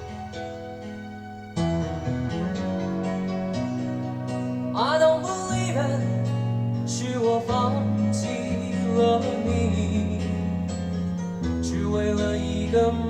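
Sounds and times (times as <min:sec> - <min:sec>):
acoustic guitar: 0:00.0 - 0:13.0
pop ballad over loudspeaker: 0:00.0 - 0:13.0.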